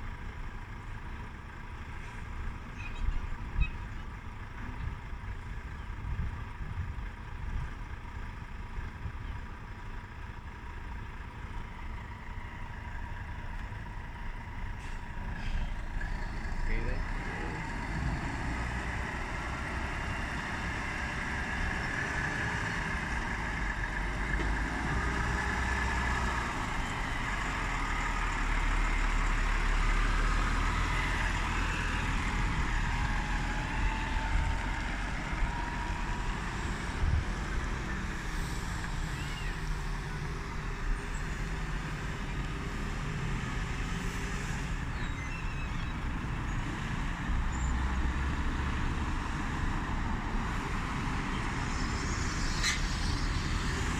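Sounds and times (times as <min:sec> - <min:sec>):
lorry engine: 0:00.0 - 0:53.9.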